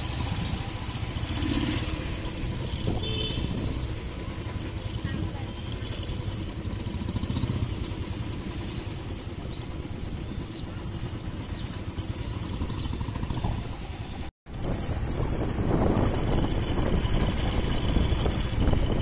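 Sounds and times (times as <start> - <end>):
motorcycle engine low rumble: 0.0 - 19.0.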